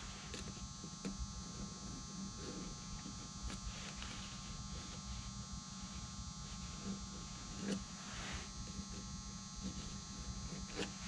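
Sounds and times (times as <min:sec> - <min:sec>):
electrical hum and buzz: 0:00.0 - 0:11.0.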